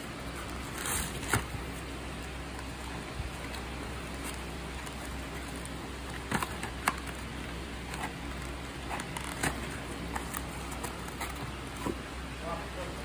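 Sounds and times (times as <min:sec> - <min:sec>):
plastic film and cardboard crinkling: 0:00.0 - 0:12.1
steady low hum: 0:00.0 - 0:13.0.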